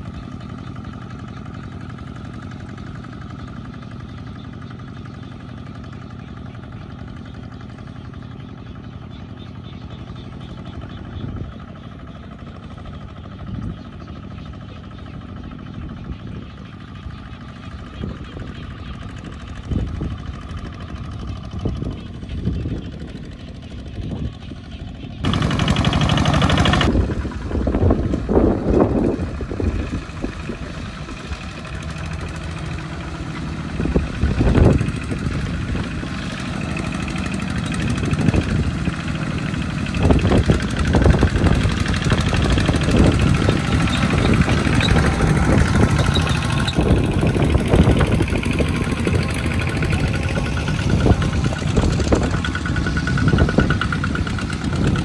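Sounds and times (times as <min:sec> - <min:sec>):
diesel tractor engines chugging: 0:00.0 - 0:55.0.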